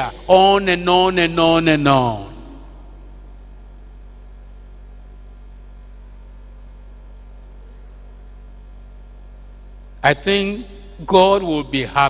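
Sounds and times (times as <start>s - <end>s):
electrical mains hum: 0.0s - 12.0s
faint hiss: 0.0s - 12.0s.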